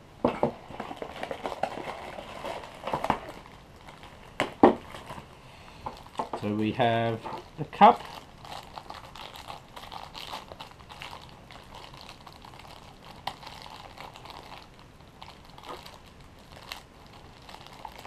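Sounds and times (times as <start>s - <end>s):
plastic bag crinkling: 0.5s - 18.0s.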